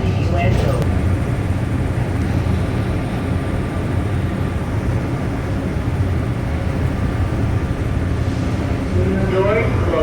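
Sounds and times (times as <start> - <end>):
train car rumble and hum: 0.0 - 10.0.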